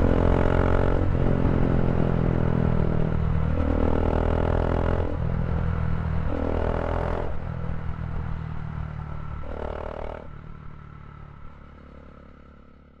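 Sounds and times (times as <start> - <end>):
motorcycle engine riding: 0.0 - 13.0.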